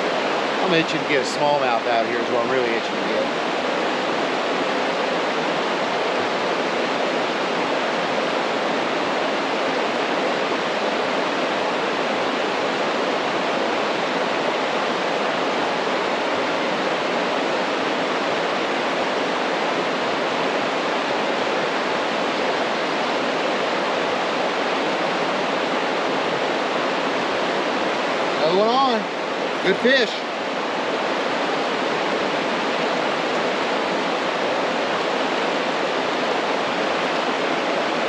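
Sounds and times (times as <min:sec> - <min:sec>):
water rushing over waterfall: 0:00.0 - 0:38.0.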